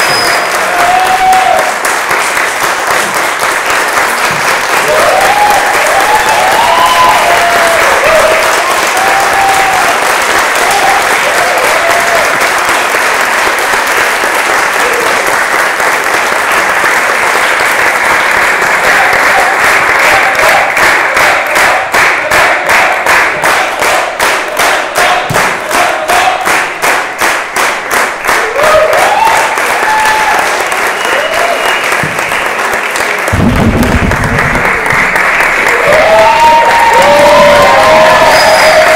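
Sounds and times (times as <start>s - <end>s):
audience applauding: 0.0s - 38.9s
rhythmic clapping in unison: 0.0s - 38.9s.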